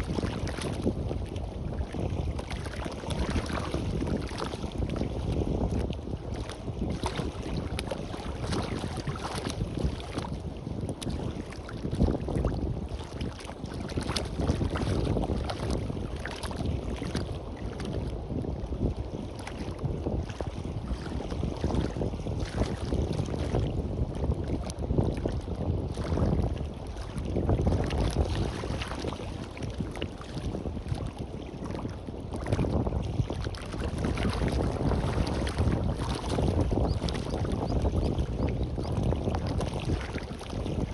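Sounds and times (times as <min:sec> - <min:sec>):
sea waves washing on beach: 0:00.0 - 0:40.9
wind rumbling on microphone: 0:00.0 - 0:40.9.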